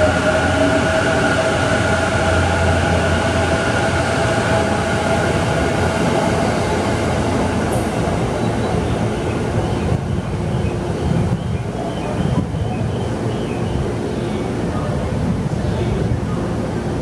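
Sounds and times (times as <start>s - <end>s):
electric train rumble and whine: 0.0s - 17.0s.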